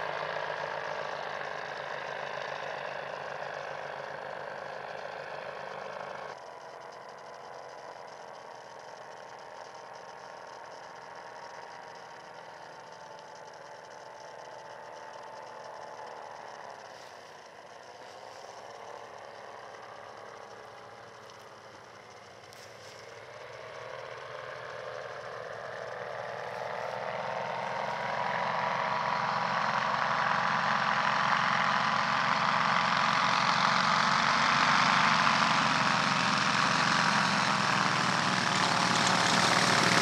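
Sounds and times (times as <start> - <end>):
four-stroke engine droning: 0.0 - 40.0.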